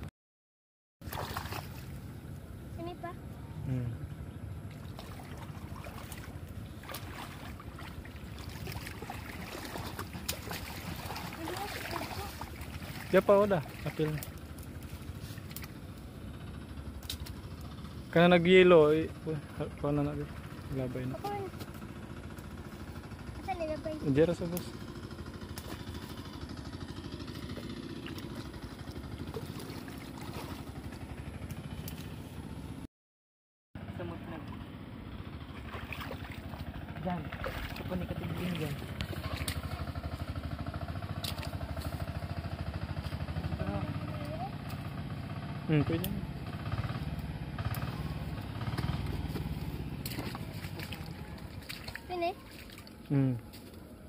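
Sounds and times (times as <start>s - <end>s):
small engine puttering: 2.1s - 32.8s, 33.8s - 54.0s.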